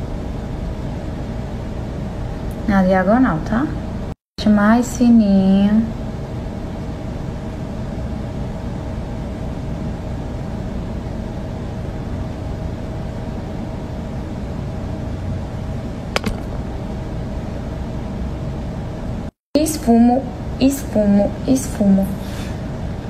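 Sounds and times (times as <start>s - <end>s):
ventilation hum: 0.0s - 23.0s.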